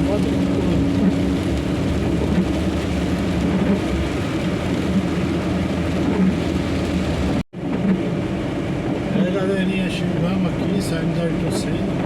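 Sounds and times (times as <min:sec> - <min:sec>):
heavy rain: 0:00.0 - 0:12.0
road noise: 0:00.0 - 0:12.0.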